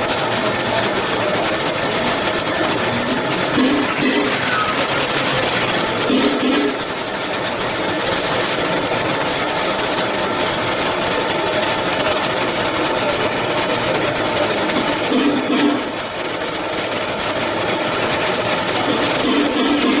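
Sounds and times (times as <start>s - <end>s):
grinding machine grinding metal: 0.0s - 20.0s.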